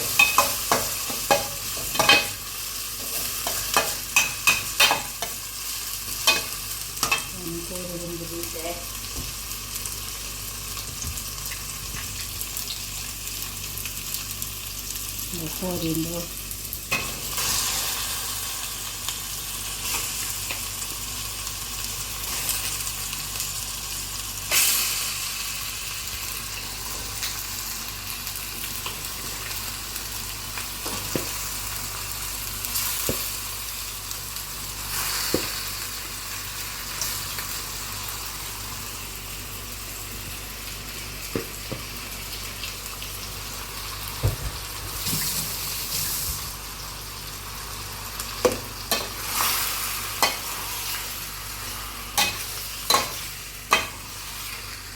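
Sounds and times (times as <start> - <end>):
food sizzling in a pan: 0.0 - 54.9.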